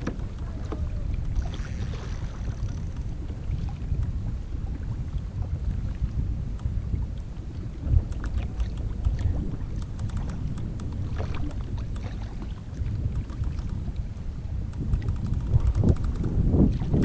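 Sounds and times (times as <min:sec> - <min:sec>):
water splashing and lapping: 0:00.0 - 0:17.0
wind rumbling on microphone: 0:00.0 - 0:17.0.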